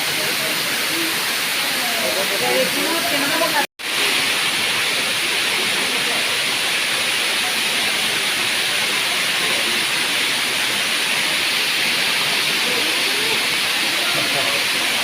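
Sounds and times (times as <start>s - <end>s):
waterfall crashing onto rock: 0.0s - 15.0s.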